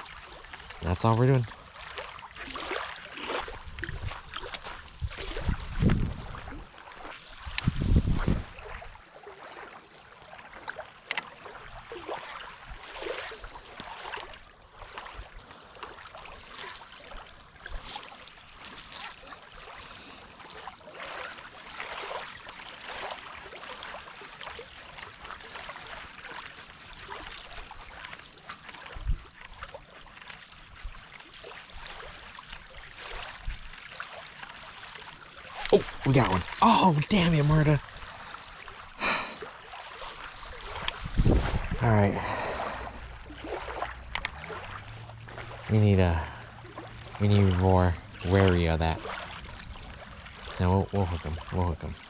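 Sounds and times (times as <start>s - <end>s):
waves lapping on gravel: 0.0s - 52.0s.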